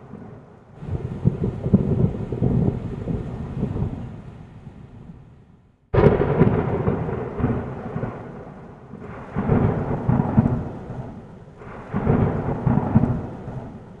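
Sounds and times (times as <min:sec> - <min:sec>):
rolls of thunder: 0:00.0 - 0:05.2, 0:06.0 - 0:14.0
steady rain: 0:00.0 - 0:14.0.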